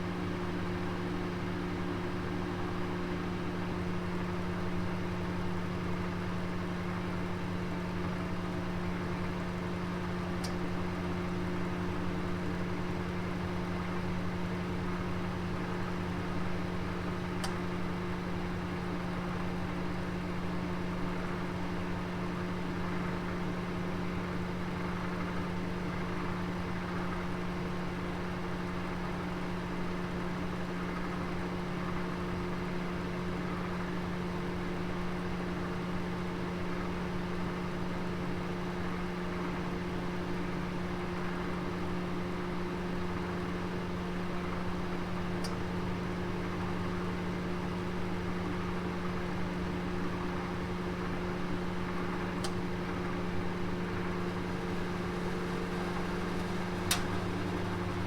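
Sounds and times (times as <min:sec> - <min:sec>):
oven humming: 0:00.4 - 0:29.6, 0:38.6 - 0:58.0.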